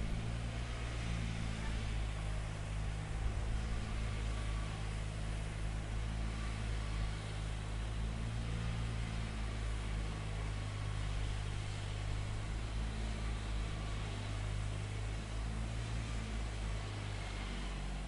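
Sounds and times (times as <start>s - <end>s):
low machinery drone: 0.0s - 18.0s.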